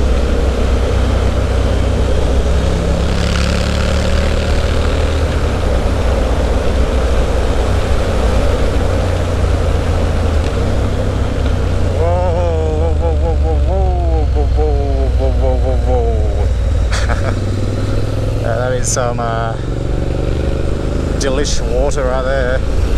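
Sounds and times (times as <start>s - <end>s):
motorcycle engine cruising: 0.0s - 22.9s.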